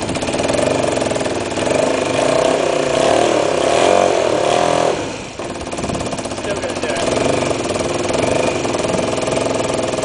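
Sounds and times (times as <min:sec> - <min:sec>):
motorcycle engine idling roughly: 0:00.0 - 0:03.6, 0:05.2 - 0:10.0.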